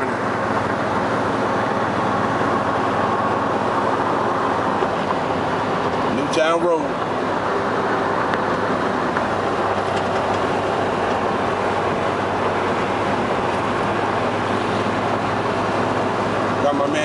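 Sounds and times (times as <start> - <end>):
car driving with road noise: 0.0 - 17.0.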